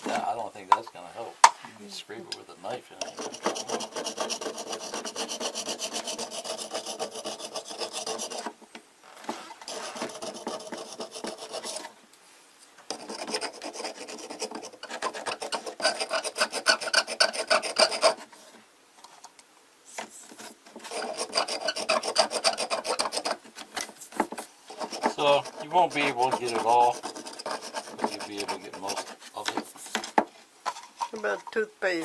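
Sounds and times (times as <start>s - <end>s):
scrubbing and scraping mineral scale: 2.9s - 12.0s, 12.9s - 19.3s, 19.9s - 32.0s.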